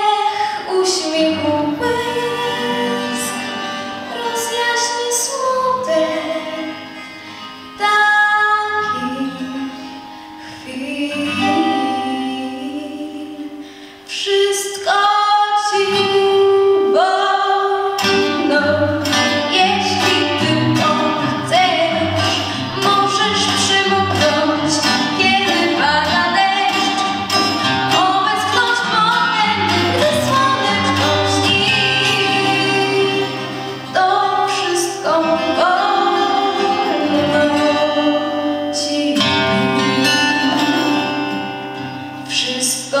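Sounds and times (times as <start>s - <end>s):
girl singing into a microphone: 0.0s - 43.0s
recorded backing track: 0.0s - 43.0s.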